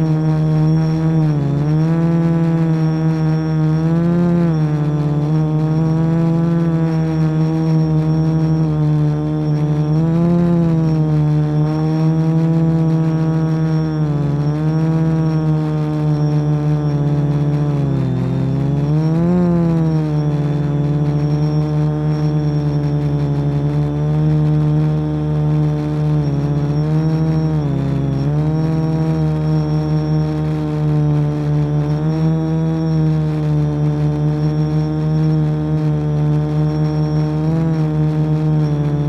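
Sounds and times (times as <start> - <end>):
drone motors and propellers buzzing: 0.0 - 39.0.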